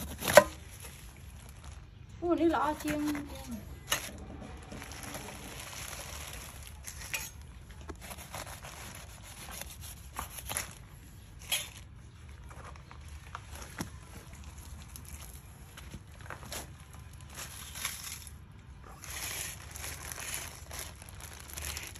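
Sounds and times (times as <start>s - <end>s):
hands handling fruit crackles: 0.0s - 21.9s
low background hum: 0.0s - 21.9s.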